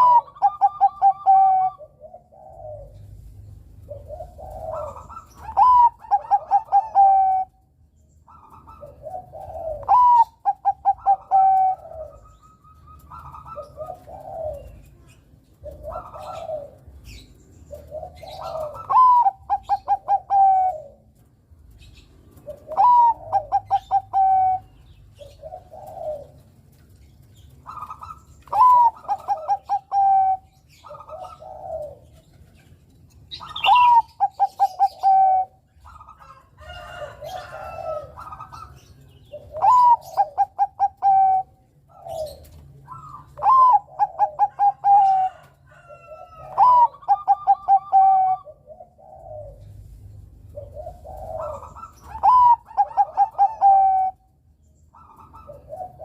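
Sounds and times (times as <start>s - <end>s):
dove singing stuttering coos: 0.0s - 56.0s.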